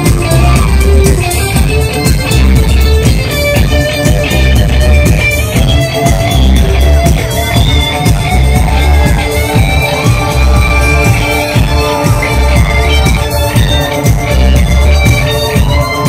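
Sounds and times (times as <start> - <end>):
electric guitar: 0.0 - 16.0
heavy bass line: 0.0 - 16.0
steady drum beat: 0.0 - 16.0.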